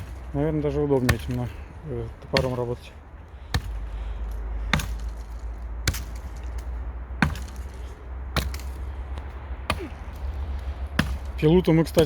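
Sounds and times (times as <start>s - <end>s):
axe chopping dead tree: 0.0s - 12.0s.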